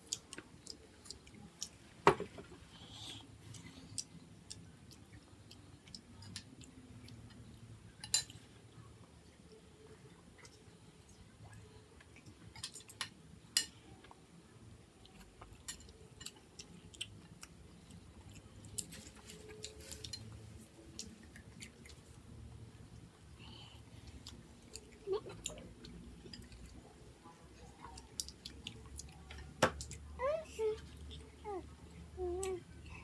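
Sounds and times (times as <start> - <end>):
children chewing: 0.0 - 2.0, 2.6 - 9.2, 10.3 - 33.0
low steady hum: 0.0 - 33.0.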